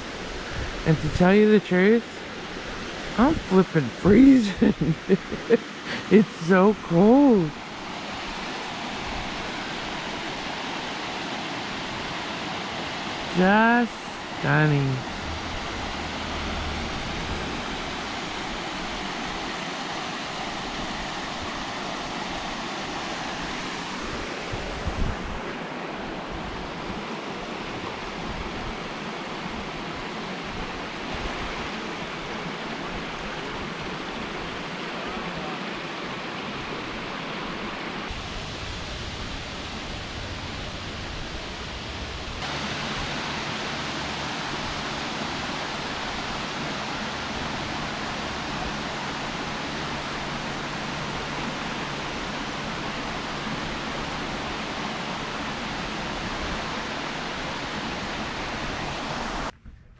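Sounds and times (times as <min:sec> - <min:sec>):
waterfall rushing: 0:00.0 - 0:59.5.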